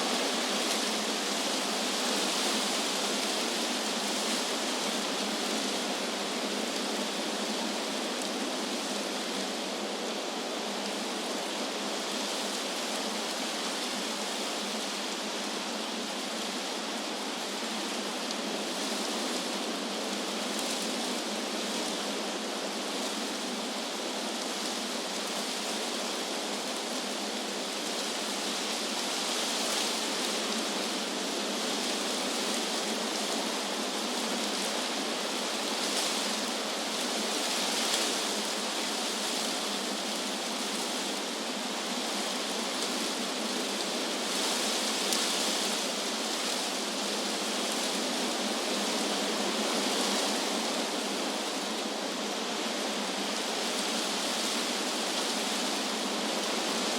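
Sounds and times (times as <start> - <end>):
wind rustling leaves: 0.0 - 56.9.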